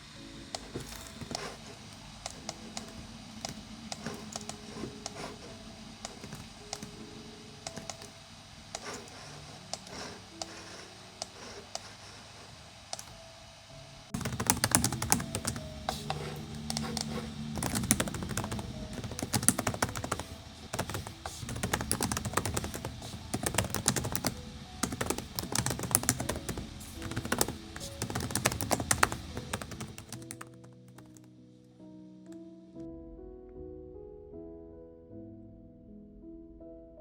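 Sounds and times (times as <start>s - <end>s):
soft background music: 0.0s - 37.0s.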